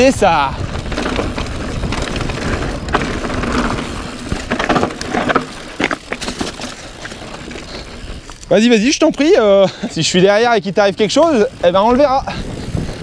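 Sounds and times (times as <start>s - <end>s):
bike rattling over bumps: 0.0s - 13.0s
bike tyres rushing over dirt: 0.0s - 13.0s
wind buffeting microphone: 0.0s - 13.0s.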